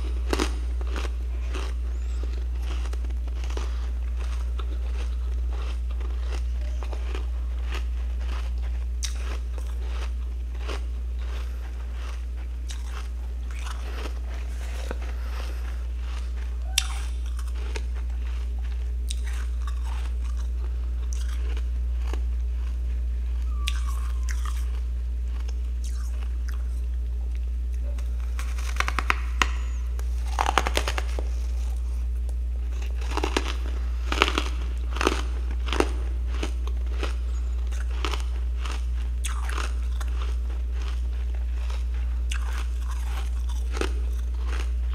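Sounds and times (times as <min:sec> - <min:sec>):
ice being chewed: 0:00.0 - 0:44.9
steady low hum: 0:00.0 - 0:44.9.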